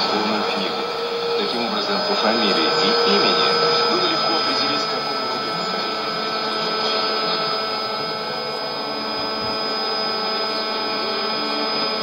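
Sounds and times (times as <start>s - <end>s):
noisy radio test signal: 0.0s - 12.0s.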